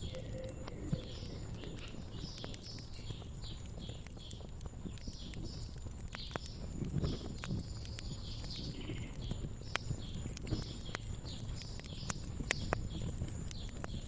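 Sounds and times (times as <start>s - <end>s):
low fire rumble: 0.0s - 14.0s
small birds chirping: 0.0s - 14.0s
wood fire crackling: 0.0s - 14.0s.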